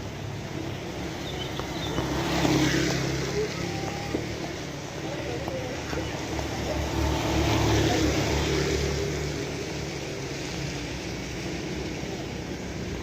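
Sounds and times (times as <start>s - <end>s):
rain hiss: 0.0s - 13.0s
vehicle engine passing: 0.4s - 11.4s.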